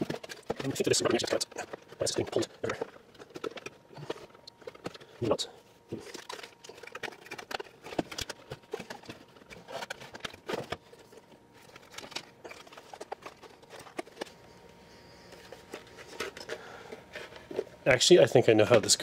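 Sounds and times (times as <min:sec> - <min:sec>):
clicks and knocks of parts handled: 0:00.0 - 0:14.5, 0:15.3 - 0:17.7.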